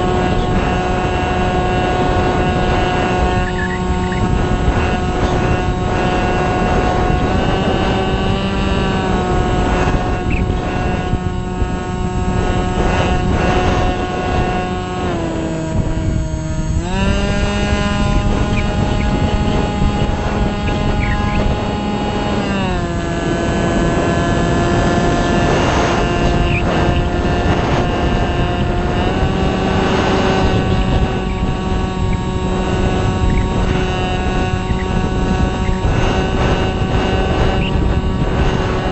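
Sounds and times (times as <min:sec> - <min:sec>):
electric motor and propeller whining: 0:00.0 - 0:38.9
wind buffeting microphone: 0:00.0 - 0:38.9.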